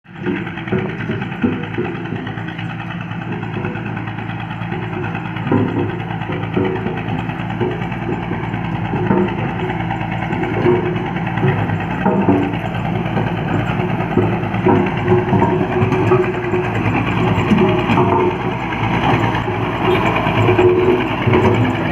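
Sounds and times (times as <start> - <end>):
engine humming: 0.0 - 21.9.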